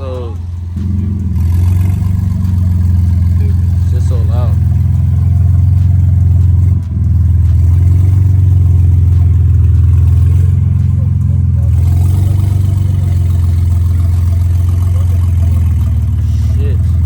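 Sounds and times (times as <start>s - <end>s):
car engine idling loudly: 0.0s - 17.0s.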